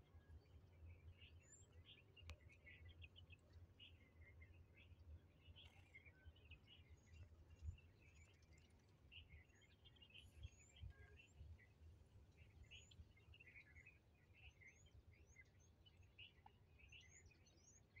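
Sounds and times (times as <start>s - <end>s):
small birds chirping: 0.6s - 18.0s.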